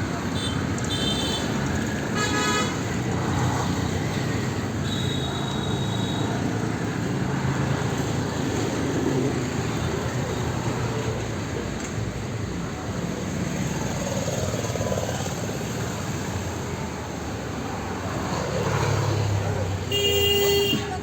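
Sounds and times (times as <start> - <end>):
street traffic din: 0.0 - 21.0.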